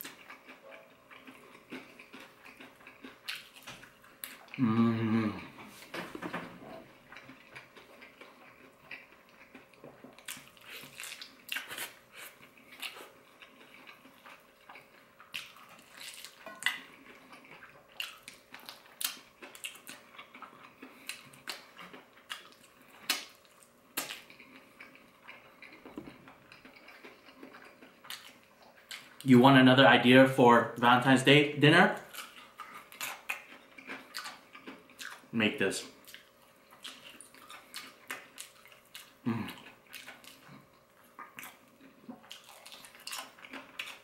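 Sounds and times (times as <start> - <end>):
mouth clicks and crunches: 0.0 - 4.9, 7.1 - 29.3, 32.0 - 44.0
person chewing crispy food: 0.0 - 6.0, 6.8 - 29.3, 32.0 - 44.0.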